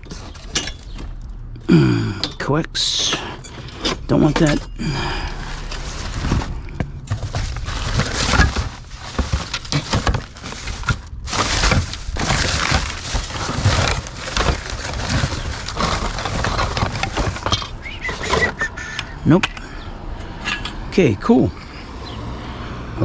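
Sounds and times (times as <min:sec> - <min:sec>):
rummaging through junk: 0:00.0 - 0:18.8.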